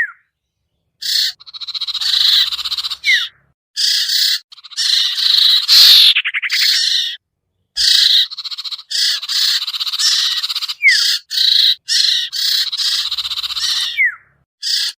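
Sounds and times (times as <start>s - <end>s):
fast rattling bird trill: 1.0s - 7.2s, 7.8s - 14.9s
harsh scratchy bird chattering: 1.0s - 7.2s, 7.8s - 14.9s.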